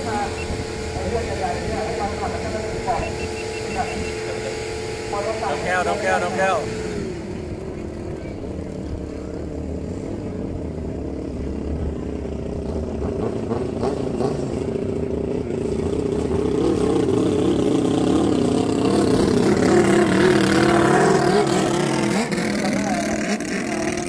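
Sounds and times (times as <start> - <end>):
boat engine revving: 0.0 - 24.0.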